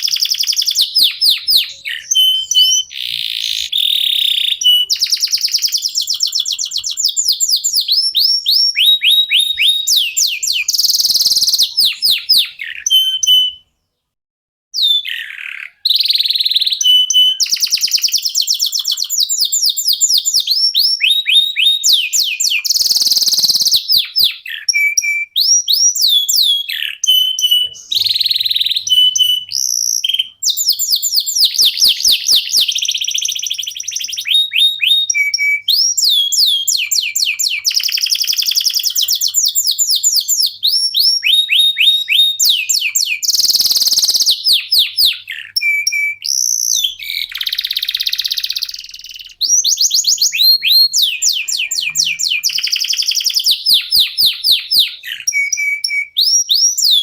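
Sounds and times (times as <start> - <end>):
canary singing trills: 0.0 - 14.1, 14.8 - 57.0.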